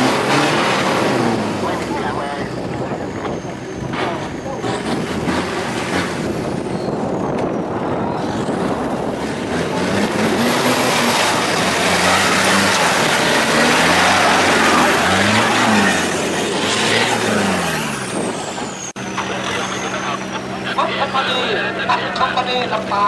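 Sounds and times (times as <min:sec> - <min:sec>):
engine revving: 0:00.0 - 0:07.2, 0:07.8 - 0:21.7
tyres churning through dirt: 0:00.0 - 0:23.0.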